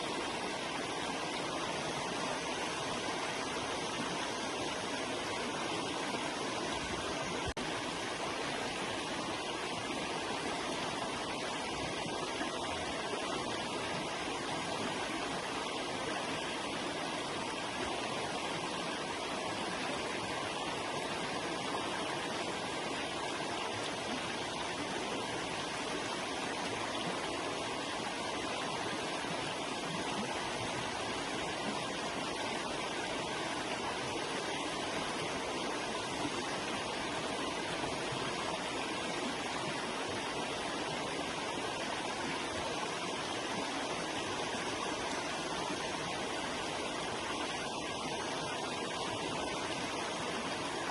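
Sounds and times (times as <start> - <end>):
river water rushing over rocks: 0.0 - 50.9.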